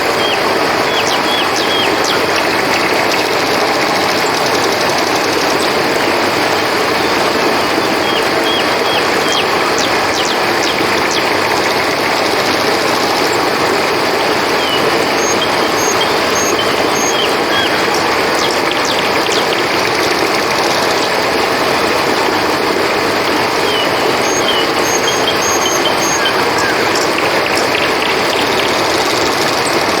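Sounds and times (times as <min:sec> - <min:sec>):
crickets chirping: 0:00.0 - 0:30.0
river water flowing: 0:00.0 - 0:30.0.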